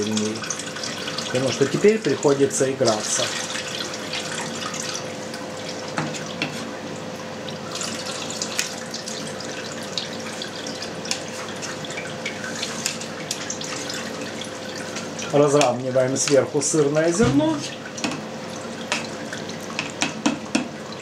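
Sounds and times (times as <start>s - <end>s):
whey trickling and dripping: 0.0s - 20.0s.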